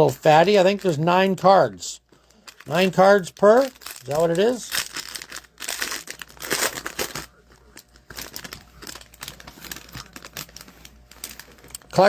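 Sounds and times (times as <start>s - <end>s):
foil wrapper crinkling and tearing: 0.0s - 1.4s, 2.1s - 12.0s.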